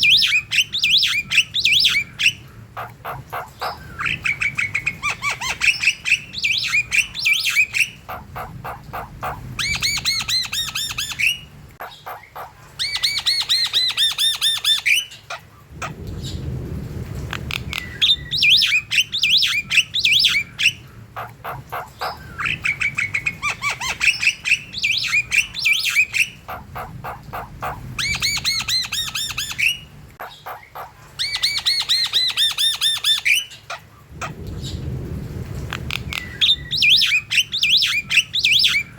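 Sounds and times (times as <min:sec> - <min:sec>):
mynas calling with clicking trills: 0:00.0 - 0:16.0, 0:17.4 - 0:34.7.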